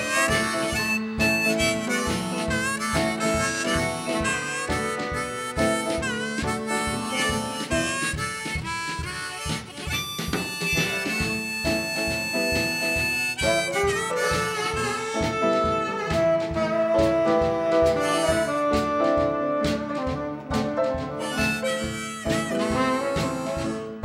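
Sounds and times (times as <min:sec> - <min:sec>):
drum beat: 0:00.0 - 0:24.0
piano: 0:00.0 - 0:24.0
tenor saxophone solo: 0:00.0 - 0:24.0.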